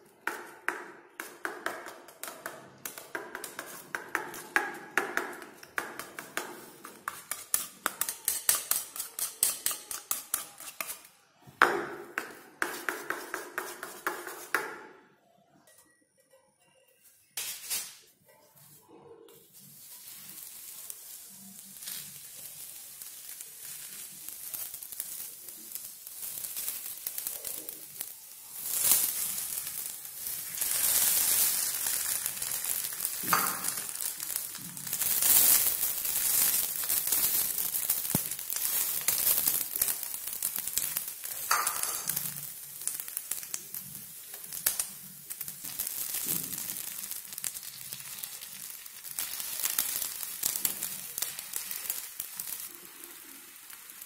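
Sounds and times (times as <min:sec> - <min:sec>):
oil sizzling in a frying pan: 0:01.2 - 0:11.1, 0:19.4 - 0:54.0.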